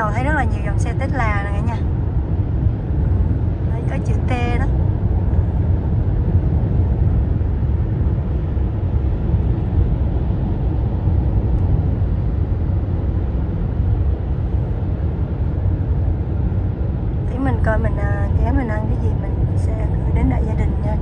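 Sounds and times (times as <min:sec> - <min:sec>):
car tyre and road noise: 0:00.0 - 0:21.0.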